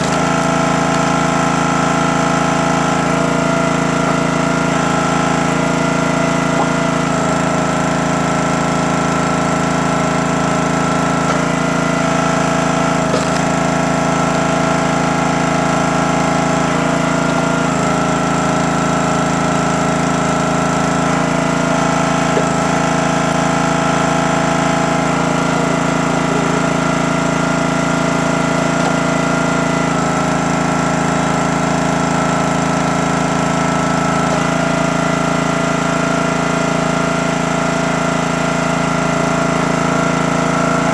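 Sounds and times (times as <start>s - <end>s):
log splitter engine running: 0.0s - 40.9s.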